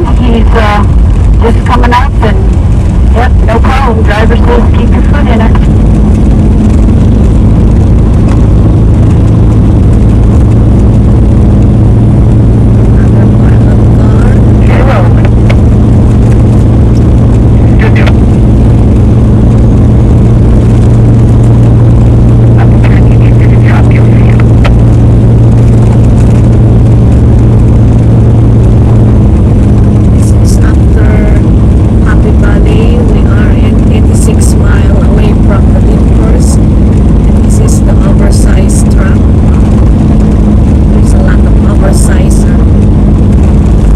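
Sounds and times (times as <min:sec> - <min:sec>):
road noise: 0:00.0 - 0:43.9
truck diesel engine running: 0:00.0 - 0:43.9.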